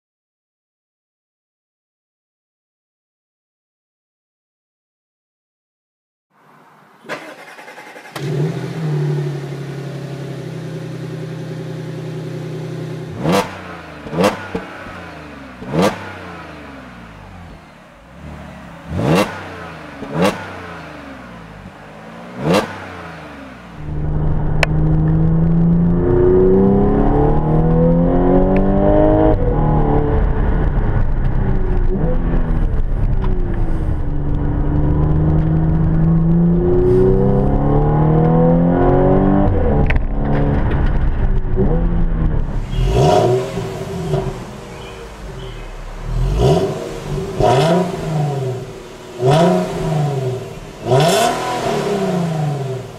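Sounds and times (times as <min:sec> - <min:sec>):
car engine idling and revving: 0:06.3 - 0:52.9
car engine accelerating from inside cabin: 0:08.1 - 0:17.6, 0:18.2 - 0:21.6, 0:22.2 - 0:52.9.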